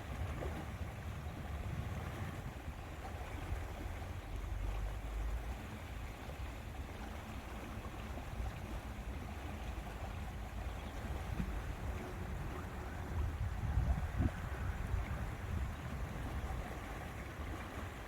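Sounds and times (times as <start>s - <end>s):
wind rumbling on microphone: 0.0s - 5.3s, 8.2s - 18.0s
rush of water: 0.0s - 18.0s.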